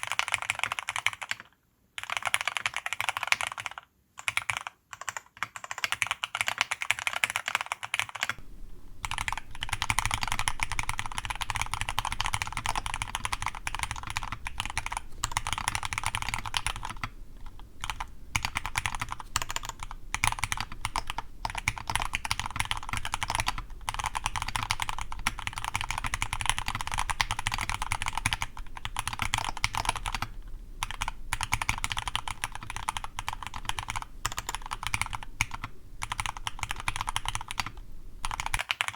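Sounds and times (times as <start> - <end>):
fast mechanical keyboard typing: 0.0 - 8.4, 9.0 - 38.9.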